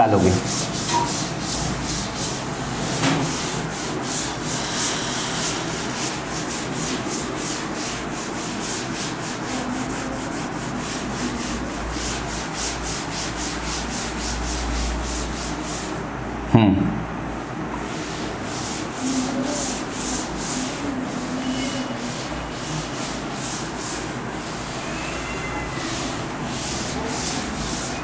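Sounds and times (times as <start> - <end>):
duster wiping a chalkboard: 0.0 - 16.2, 17.4 - 28.0.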